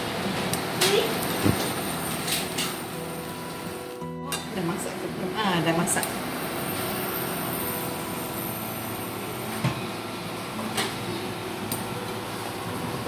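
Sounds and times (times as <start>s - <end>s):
fan-like whir and hiss: 0.0s - 13.0s.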